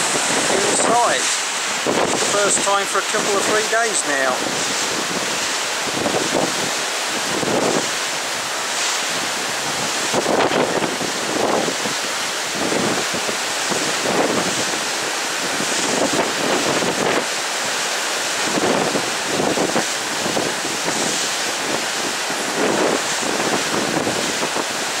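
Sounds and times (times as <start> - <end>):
wind buffeting microphone: 0.0 - 3.6, 4.2 - 17.8, 18.4 - 25.0
wind rushing: 0.0 - 17.3, 18.4 - 24.8
choppy sea: 0.0 - 25.0.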